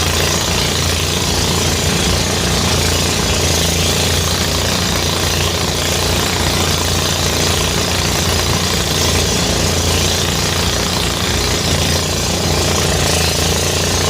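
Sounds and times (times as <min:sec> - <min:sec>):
rice thresher engine running: 0:00.0 - 0:14.0.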